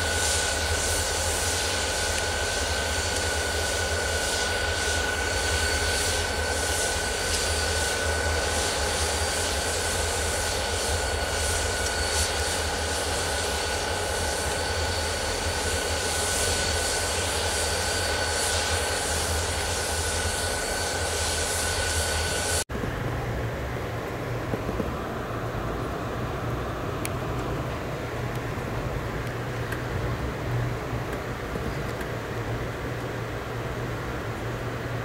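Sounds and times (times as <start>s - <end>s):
high-pitched whine: 0.0s - 35.0s.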